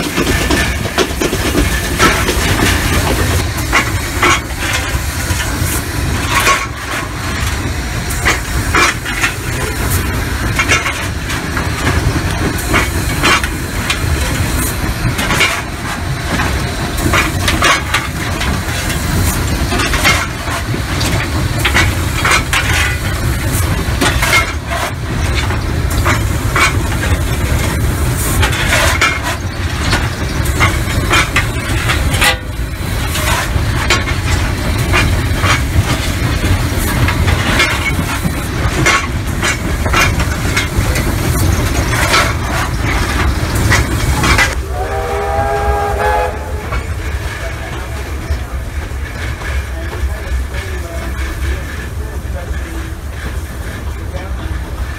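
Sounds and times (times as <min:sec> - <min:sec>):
clanks and knocks: 0:00.0 - 0:44.6
steam locomotive rumble: 0:00.0 - 0:54.9.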